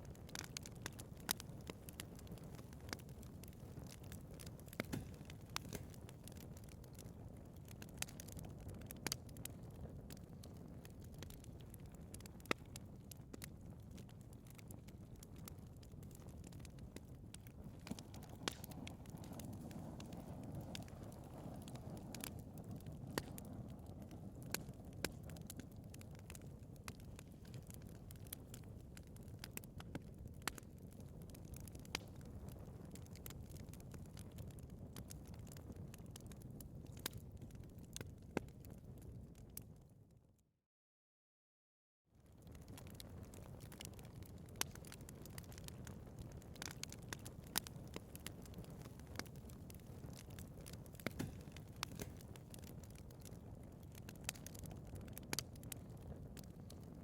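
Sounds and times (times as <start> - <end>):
fire crackling and popping: 0.0 - 40.1, 42.2 - 57.0
low rumble of flames: 0.0 - 40.2, 42.1 - 57.0.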